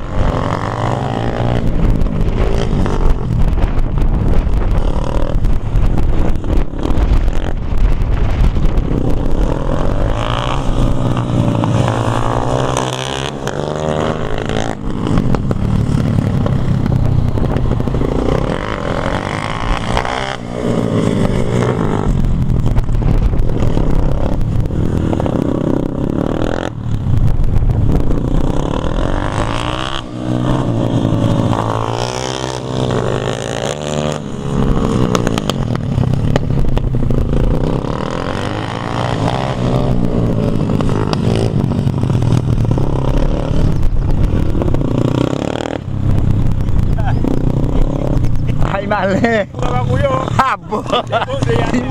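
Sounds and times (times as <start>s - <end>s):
dirt bike engine revving: 0.0s - 27.0s, 27.8s - 51.9s.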